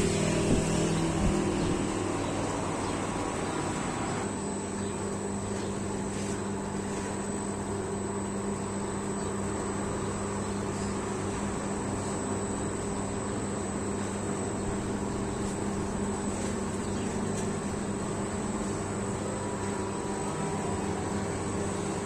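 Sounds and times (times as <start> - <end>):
motor humming and whining: 0.0 - 22.0.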